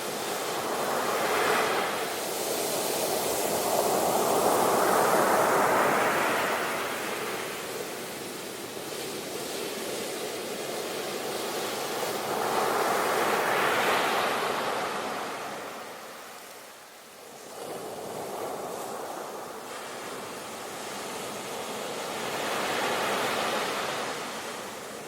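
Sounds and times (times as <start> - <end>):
ocean waves washing ashore: 0.0 - 25.0.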